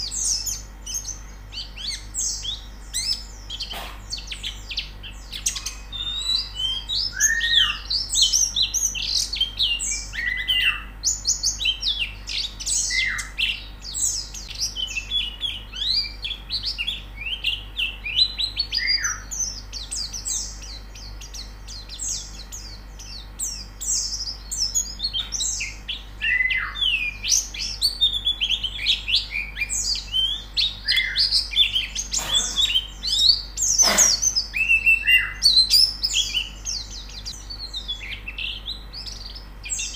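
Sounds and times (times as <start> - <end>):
birds chirping: 0.0 - 39.9
lower downslurred bird calls: 0.0 - 39.9.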